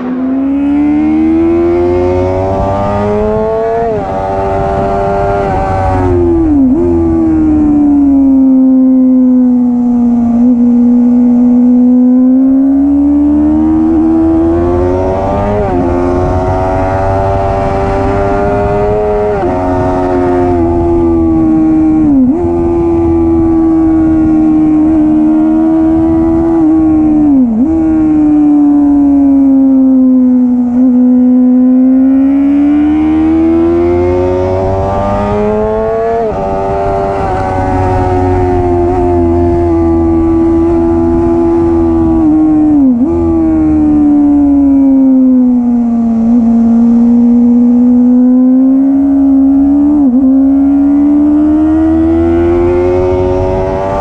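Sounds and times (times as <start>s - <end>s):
motorcycle engine revving hard: 0.0s - 54.0s.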